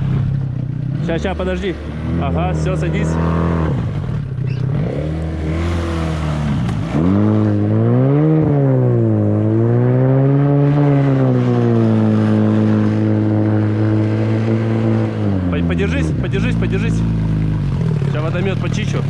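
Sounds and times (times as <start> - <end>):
outboard motor revving: 0.0 - 19.0.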